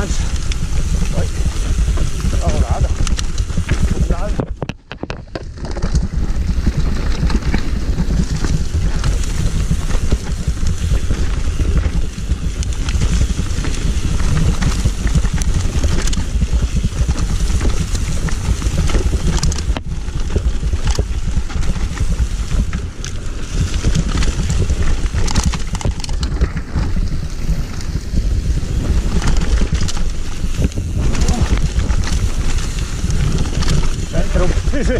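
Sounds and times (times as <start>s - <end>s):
bike rattling and knocking: 0.0s - 34.9s
tyres rolling on dirt: 0.0s - 34.9s
wind rushing on microphone: 0.0s - 34.9s.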